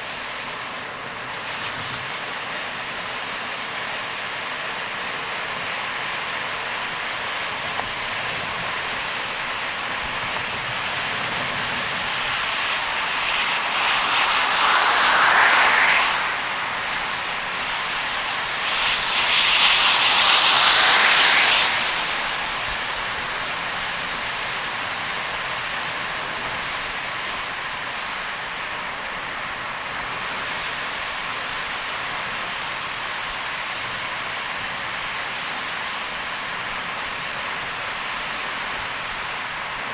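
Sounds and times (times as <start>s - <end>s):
heavy rain: 0.0s - 39.9s
tyres hissing on wet road: 0.0s - 39.9s.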